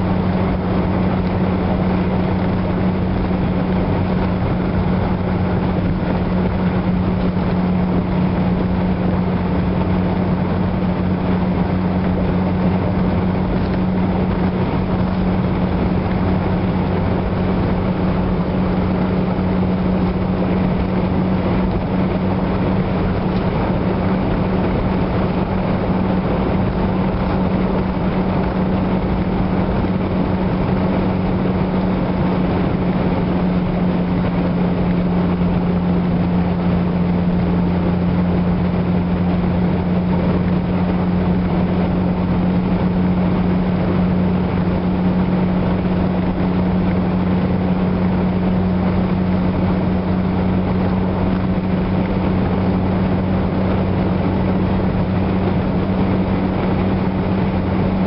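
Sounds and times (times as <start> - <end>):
car engine drone: 0.0 - 58.0
tyre and road rumble: 0.0 - 58.0.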